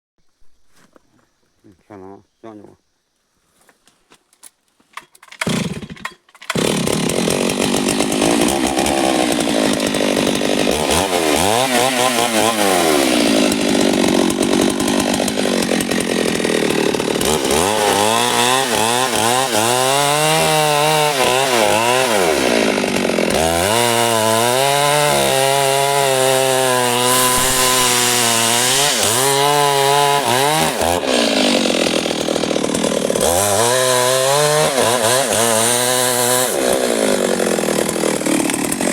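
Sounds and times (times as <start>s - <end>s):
chainsaw revving: 5.3s - 38.9s.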